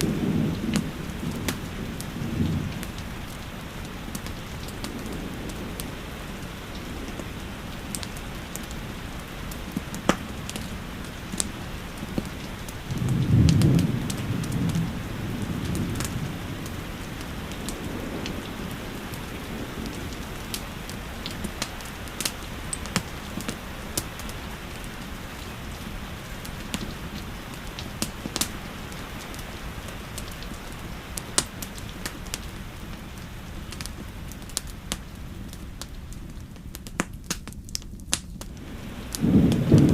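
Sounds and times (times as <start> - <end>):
thunder rumble: 0.0 - 35.6, 38.4 - 39.9
steady rain: 0.0 - 39.9
wood fire crackling: 0.0 - 39.9.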